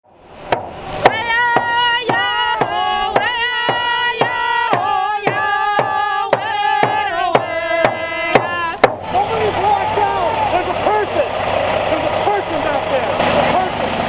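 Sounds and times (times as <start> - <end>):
drum beating steadily: 1.1 - 14.0.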